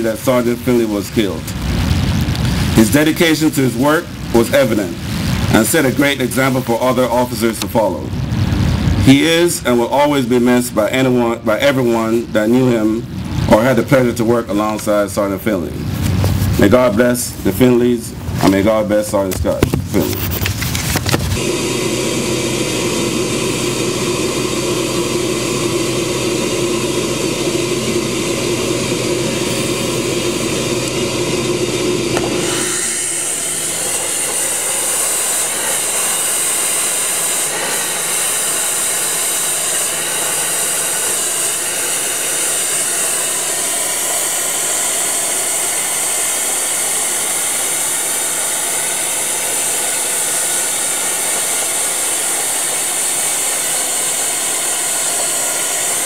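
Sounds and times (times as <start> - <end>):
mechanical drone: 0.0 - 14.2, 19.5 - 56.0
sandblaster hissing: 0.0 - 14.8, 16.0 - 56.0.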